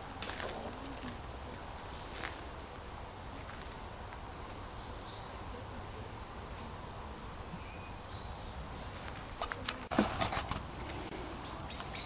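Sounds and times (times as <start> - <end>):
outdoor background noise: 0.0 - 12.0
birds calling faintly: 0.3 - 9.9, 10.8 - 12.0.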